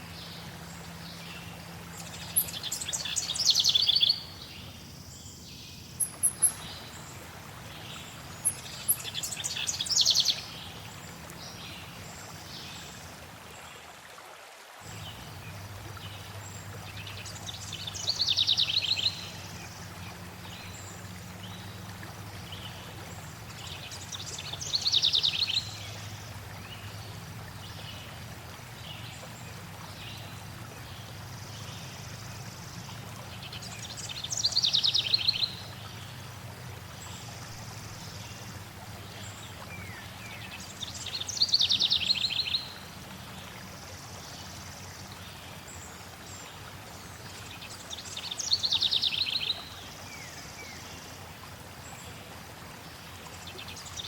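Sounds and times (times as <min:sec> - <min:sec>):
songbird singing: 0:00.0 - 0:13.1, 0:14.9 - 0:36.3, 0:37.0 - 0:43.5, 0:47.2 - 0:51.1
flowing water: 0:00.0 - 0:54.0.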